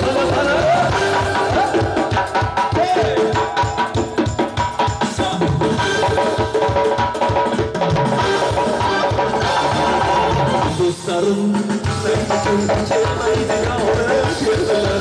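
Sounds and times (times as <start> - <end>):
electronic keyboards: 0.0 - 15.0.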